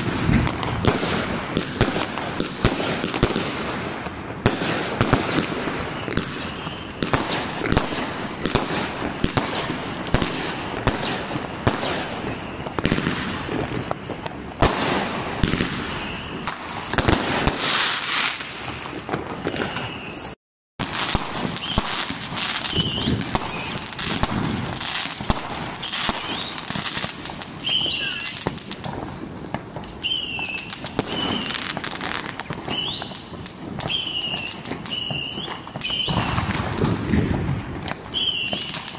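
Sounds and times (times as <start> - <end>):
fireworks bangs and crackles: 0.0 - 38.9
firework whistles: 4.5 - 38.9.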